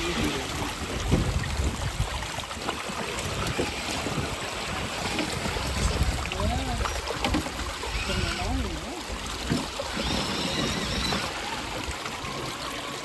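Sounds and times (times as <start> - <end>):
wind buffeting microphone: 0.0 - 12.0
flowing water rushing: 0.0 - 13.0.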